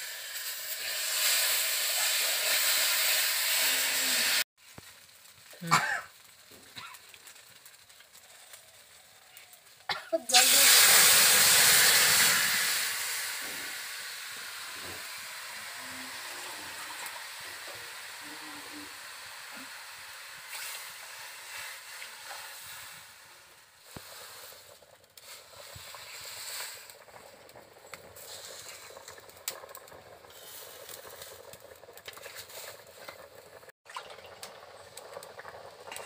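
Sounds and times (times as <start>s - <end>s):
curry sizzling: 0.0s - 36.0s
water hissing in hot pan: 0.0s - 36.0s.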